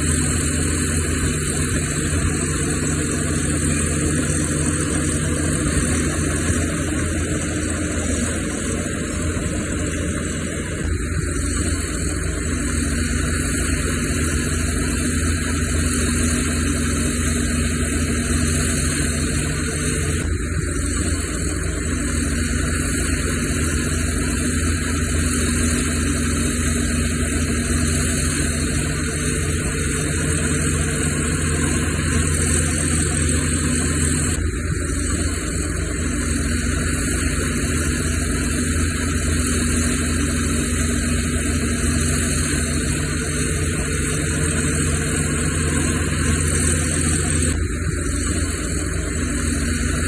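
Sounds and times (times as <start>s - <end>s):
heavy diesel machinery running: 0.0s - 50.0s.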